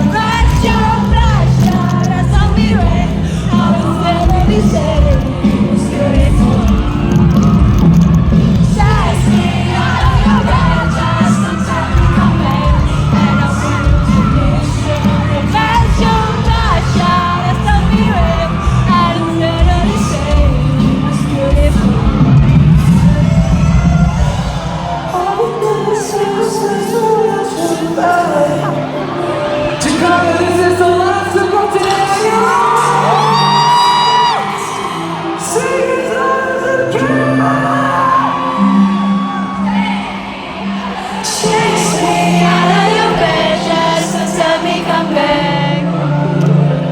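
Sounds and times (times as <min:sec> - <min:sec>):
crowd shouting: 0:00.0 - 0:46.9
live pop-rock band: 0:00.0 - 0:46.9
person singing: 0:00.0 - 0:46.9.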